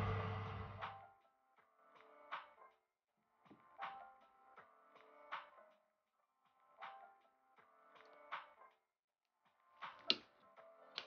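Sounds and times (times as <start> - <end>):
faint background music notes: 0.0 - 11.0.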